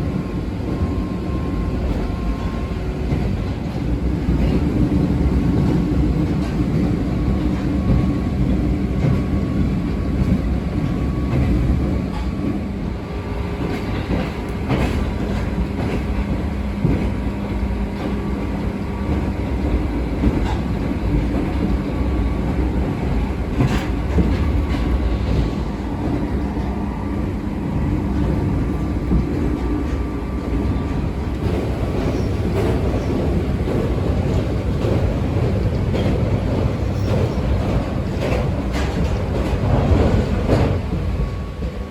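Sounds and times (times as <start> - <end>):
electric train rumble and motor hum: 0.0 - 41.9.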